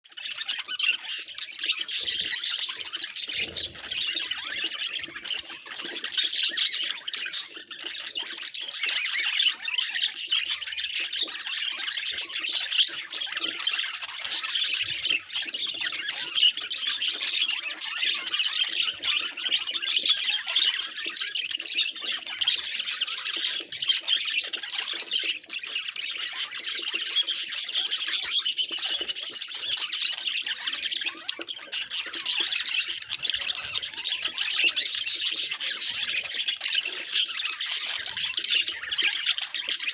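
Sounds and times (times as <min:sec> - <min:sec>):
budgerigars chattering and warbling: 0:00.1 - 0:39.9.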